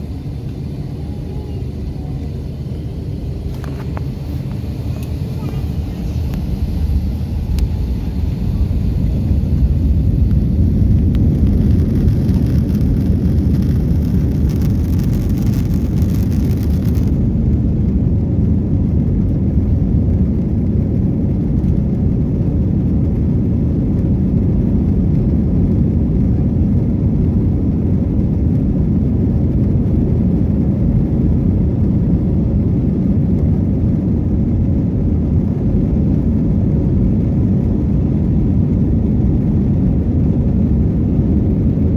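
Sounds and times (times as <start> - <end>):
jet engine whir: 0.0 - 41.9
low rumble: 0.0 - 41.9.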